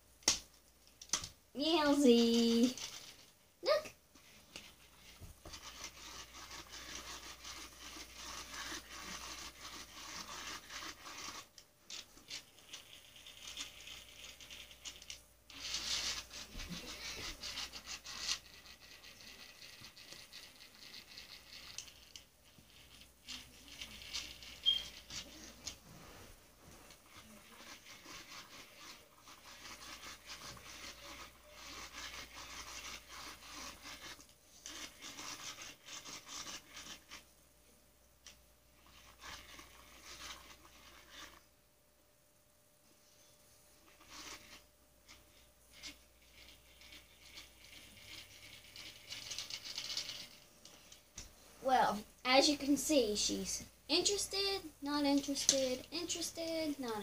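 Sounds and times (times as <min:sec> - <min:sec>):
scratching and rubbing on carpet: 0:01.6 - 0:03.4, 0:04.2 - 0:37.3, 0:38.3 - 0:41.5, 0:42.8 - 0:57.0.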